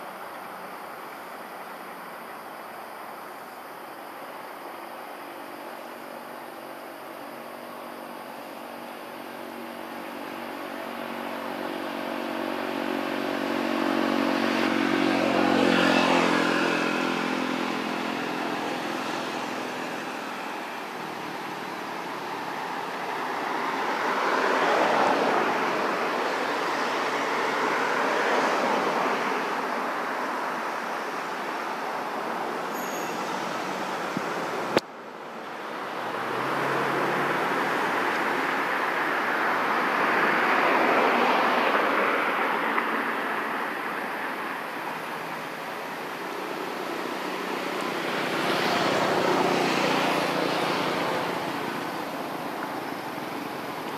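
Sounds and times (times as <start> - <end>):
passing traffic rushing: 0.0 - 53.9.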